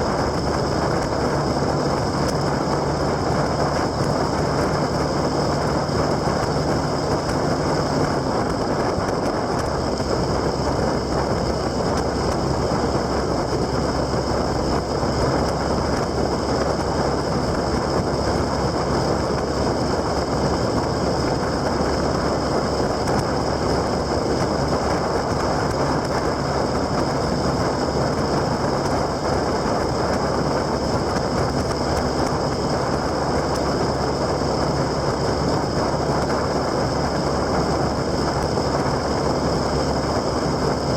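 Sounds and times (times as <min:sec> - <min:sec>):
low engine drone: 0:00.0 - 0:40.9
wind and road rush: 0:00.0 - 0:40.9.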